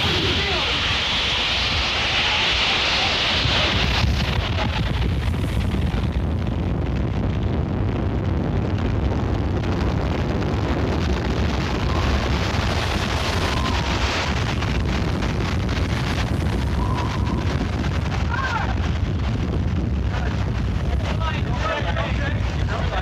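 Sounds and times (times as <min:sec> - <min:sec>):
wind rushing with deep rumble: 0:00.0 - 0:23.0.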